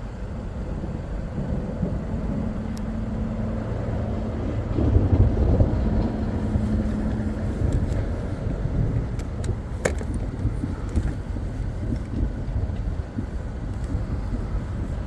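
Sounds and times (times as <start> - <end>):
vehicle rumbling on the move: 0.0 - 15.0
wind buffeting: 0.0 - 15.0.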